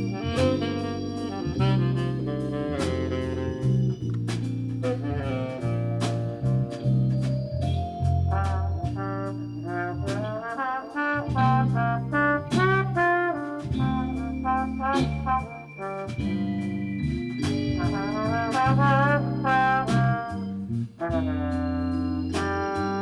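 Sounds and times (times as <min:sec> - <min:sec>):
bass line: 0:00.0 - 0:23.0
brass section playing jazz: 0:00.0 - 0:23.0
steady drum beat: 0:00.0 - 0:23.0.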